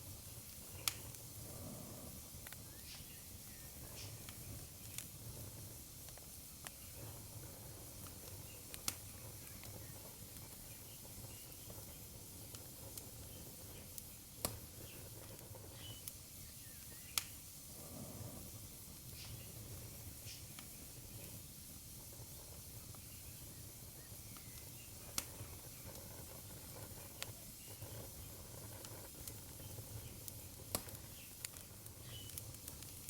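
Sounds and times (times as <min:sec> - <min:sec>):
fire crackling pops: 0:00.0 - 0:33.0
fire rumble and hiss: 0:00.0 - 0:33.0.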